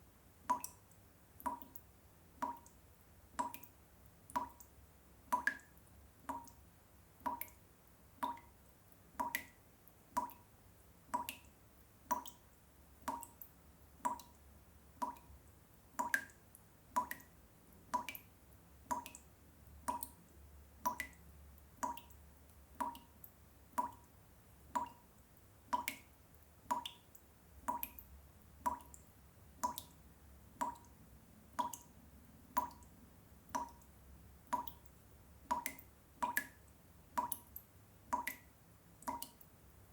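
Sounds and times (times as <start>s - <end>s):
water drops dripping: 0.4s - 7.6s, 8.2s - 39.6s.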